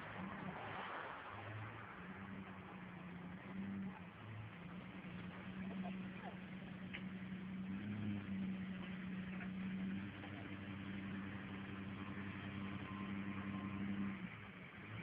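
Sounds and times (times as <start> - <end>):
pickup engine droning: 0.0 - 15.0.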